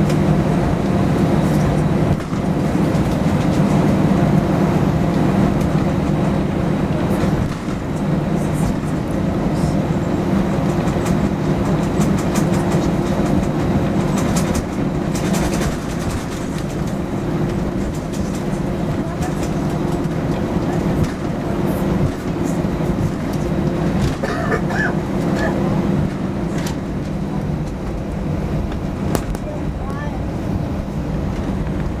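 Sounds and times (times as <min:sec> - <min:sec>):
jet engines humming in cabin: 0:00.0 - 0:32.0.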